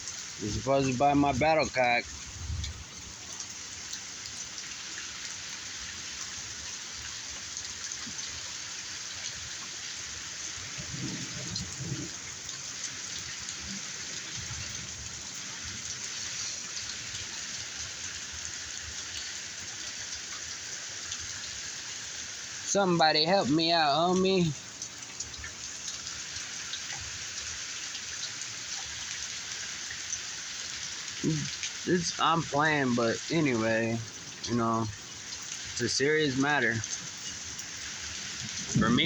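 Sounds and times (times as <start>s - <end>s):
rain pattering on surfaces: 0.0s - 39.0s.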